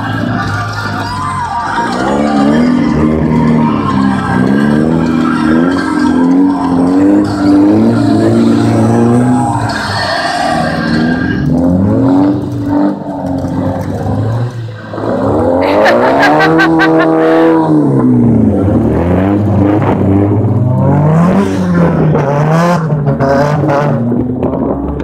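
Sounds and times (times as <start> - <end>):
car engine revving hard: 0.0 - 24.8.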